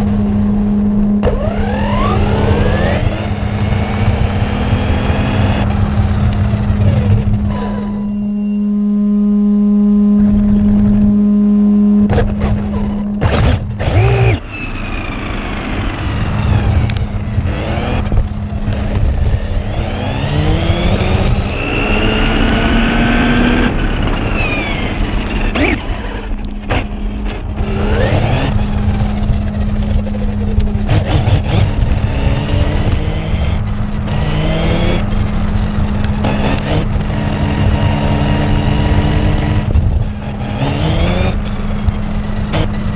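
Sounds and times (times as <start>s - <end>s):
rc car motor whine: 0.0s - 11.3s, 12.0s - 42.9s
steady low hum: 0.0s - 42.9s
tyre and road rumble: 0.0s - 42.9s.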